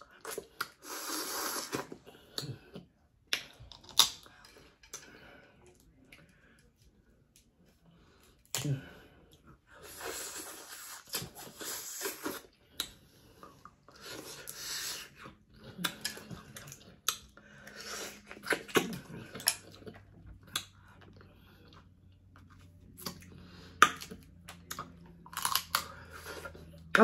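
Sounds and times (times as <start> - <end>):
person chewing: 0.0 - 6.6, 8.0 - 26.9.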